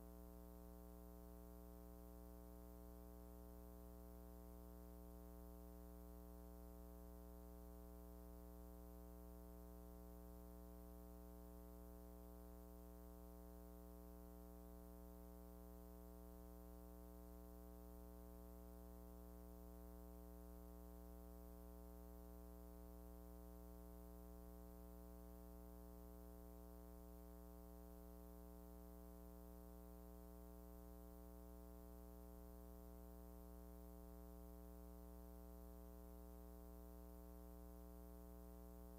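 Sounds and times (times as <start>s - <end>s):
faint low buzzing hum: 0.0s - 38.9s.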